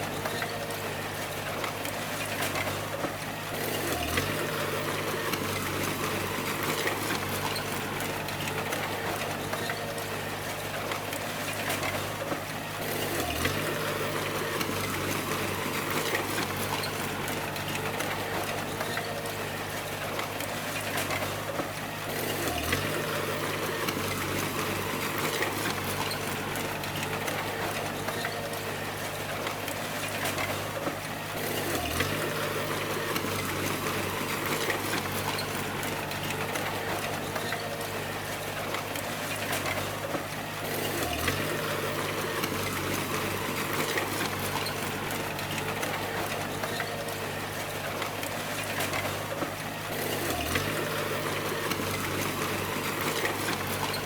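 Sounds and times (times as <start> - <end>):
bulldozer engine running: 0.0 - 54.0.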